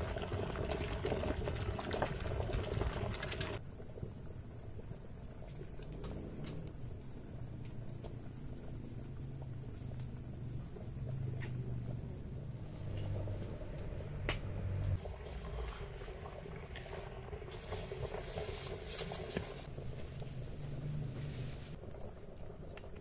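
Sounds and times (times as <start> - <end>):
wood fire crackling and popping: 0.0 - 4.0, 4.8 - 23.0
stew boiling in a pot: 0.0 - 23.0.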